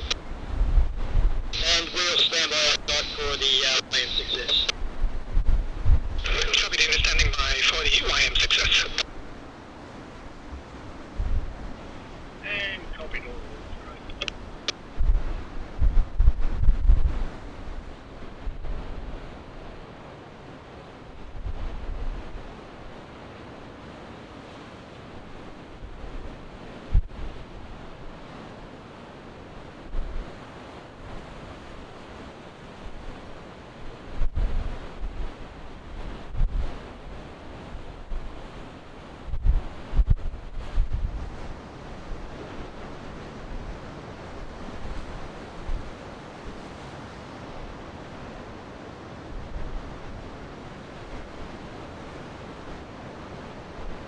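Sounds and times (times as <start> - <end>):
wind buffeting microphone: 0.0 - 1.9, 4.2 - 54.0
wind and waves rushing: 0.0 - 54.0.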